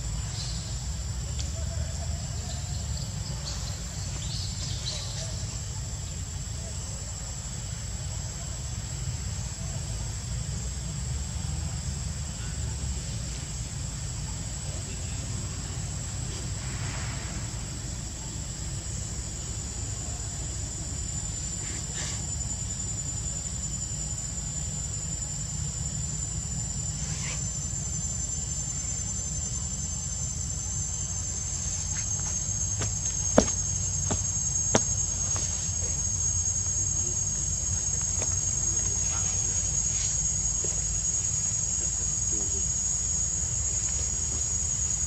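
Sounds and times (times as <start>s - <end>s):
constant low rumble: 0.0s - 45.0s
insects trilling: 0.0s - 45.0s
lower insect trill: 0.0s - 45.0s.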